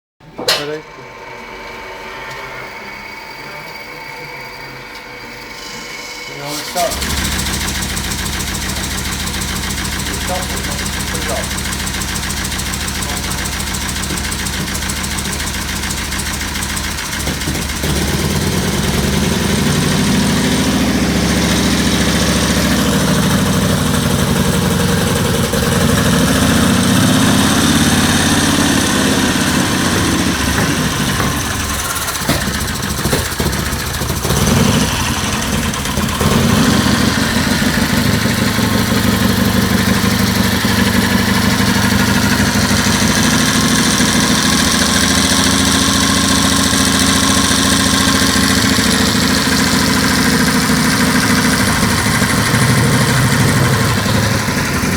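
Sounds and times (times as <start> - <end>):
v-twin engine revving: 6.6 - 54.9.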